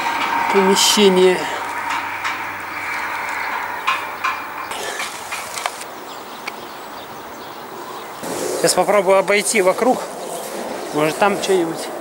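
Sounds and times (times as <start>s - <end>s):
bird calls: 0.0s - 12.0s
outdoor background noise: 0.0s - 12.0s.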